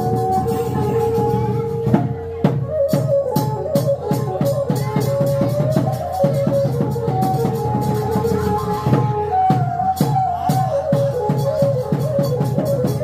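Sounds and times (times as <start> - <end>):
drums and cymbals beaten: 0.0 - 13.0
held melody line: 0.0 - 13.0.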